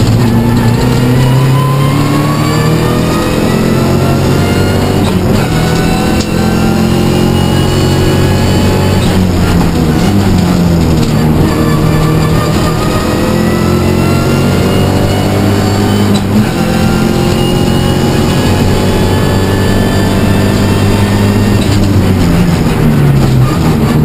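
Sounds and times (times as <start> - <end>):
car engine pulling under load: 0.0 - 24.0.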